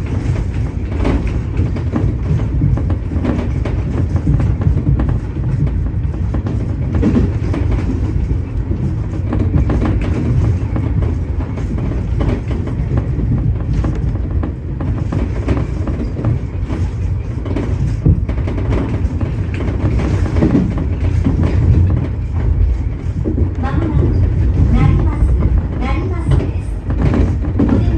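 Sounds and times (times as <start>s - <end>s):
train low rumble: 0.0s - 27.9s
train wheels clattering over rail joints: 0.0s - 27.9s.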